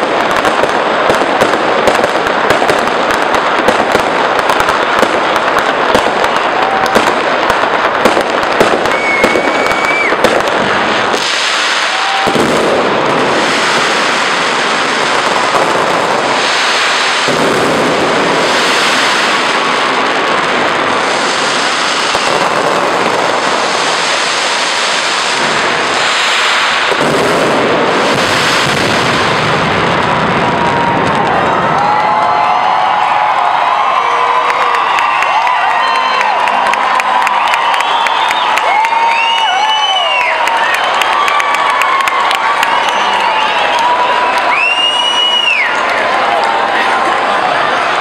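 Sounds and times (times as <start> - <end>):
fireworks crackling: 0.0 - 48.0.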